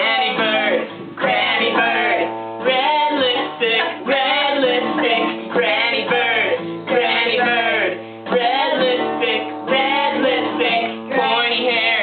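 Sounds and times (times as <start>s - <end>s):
guitar accompaniment: 0.0s - 12.0s
person singing: 0.0s - 12.0s.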